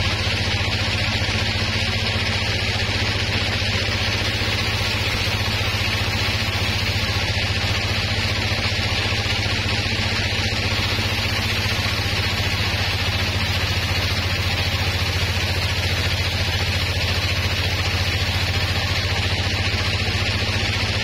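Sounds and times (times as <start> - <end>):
sawmill machinery droning: 0.0 - 21.0.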